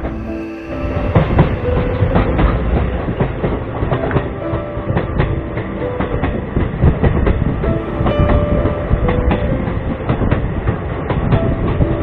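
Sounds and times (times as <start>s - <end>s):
background tune: 0.0s - 12.0s.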